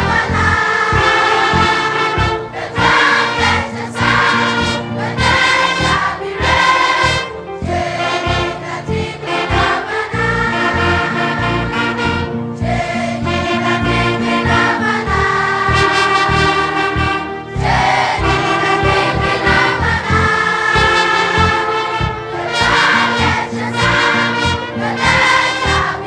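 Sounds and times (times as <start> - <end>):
children's choir singing a hymn: 0.0 - 26.0
orchestra of strings and brass: 0.0 - 26.0.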